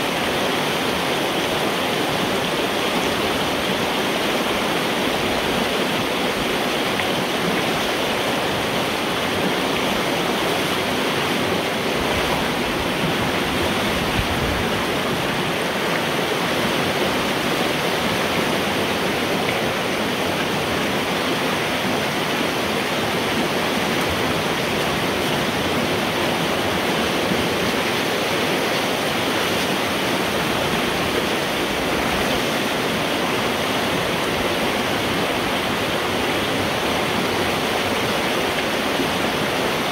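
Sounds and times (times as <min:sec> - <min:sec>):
water rushing through a pipe: 0:00.0 - 0:39.9.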